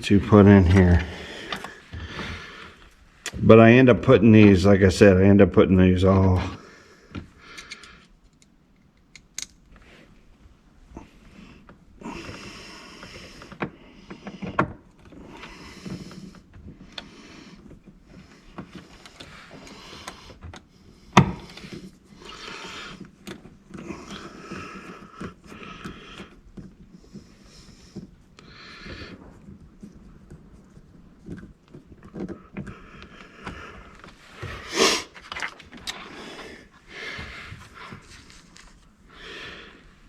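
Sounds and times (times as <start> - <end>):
scraping and rustling of wires: 7.2 - 40.0.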